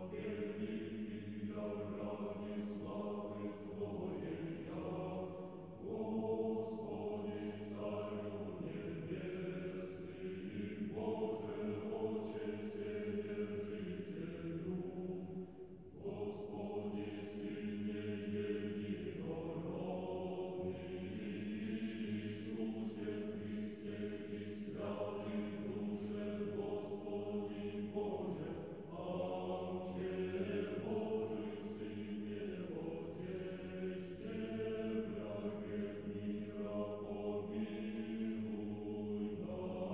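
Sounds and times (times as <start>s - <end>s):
choir singing slow chant: 0.0s - 39.9s.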